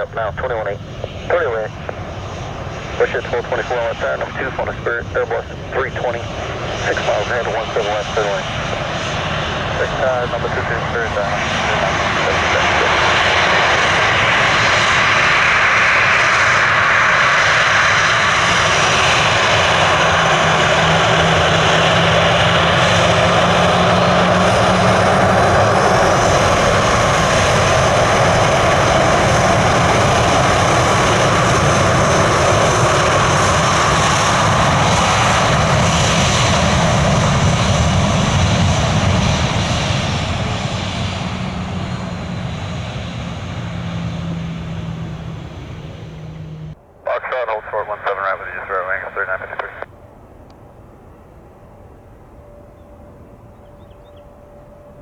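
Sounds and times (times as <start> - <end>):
jet engines roaring with high whine: 0.0 - 55.0.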